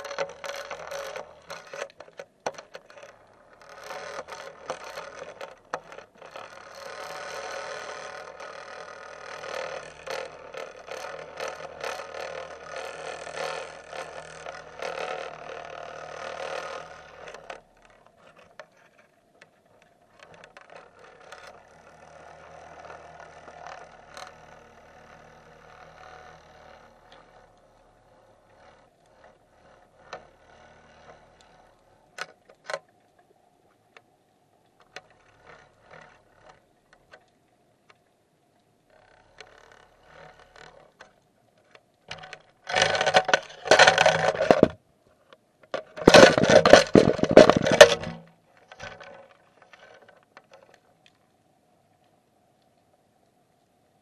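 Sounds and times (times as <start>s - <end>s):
rattling and clicking underwater: 0.0s - 51.4s.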